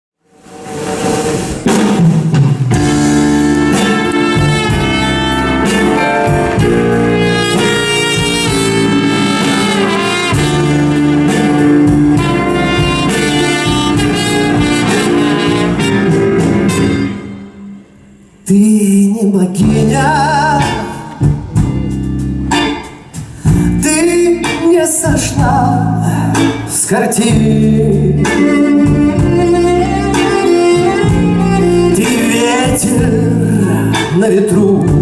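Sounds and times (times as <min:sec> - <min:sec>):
drum kit: 0:00.3 - 0:17.7, 0:19.5 - 0:35.0
band playing instrumental music: 0:00.4 - 0:35.0.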